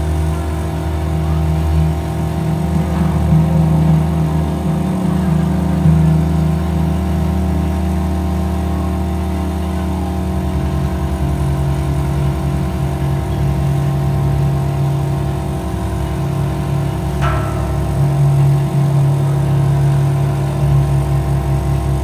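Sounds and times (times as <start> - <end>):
deep pulsing hum: 0.0 - 22.0
gongs ringing: 0.0 - 22.0.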